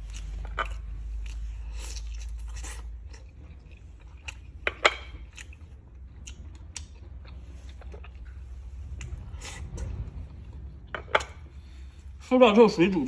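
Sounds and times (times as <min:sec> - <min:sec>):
chewing: 0:00.0 - 0:11.8.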